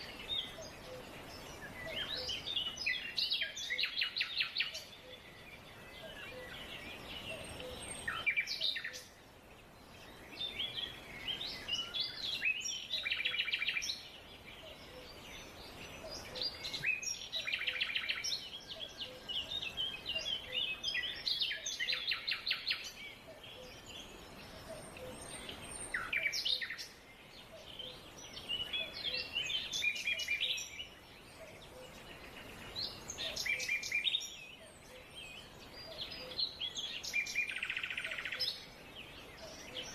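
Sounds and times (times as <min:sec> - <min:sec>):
birds chirping and trilling: 0:00.0 - 0:39.9
faint steady hiss: 0:00.0 - 0:39.9.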